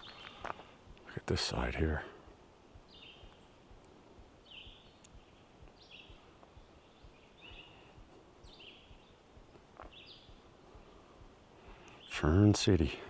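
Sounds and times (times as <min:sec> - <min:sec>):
soft footsteps: 0:00.0 - 0:12.1
songbird singing: 0:00.0 - 0:13.0.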